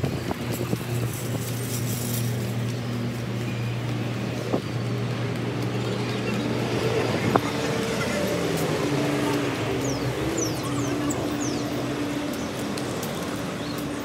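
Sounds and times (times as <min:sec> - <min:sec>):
vehicle engines humming: 0:00.0 - 0:14.0.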